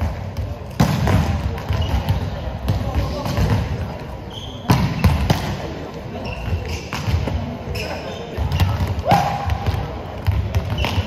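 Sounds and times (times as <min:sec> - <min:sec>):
ball bouncing on court floor: 0:00.0 - 0:11.0.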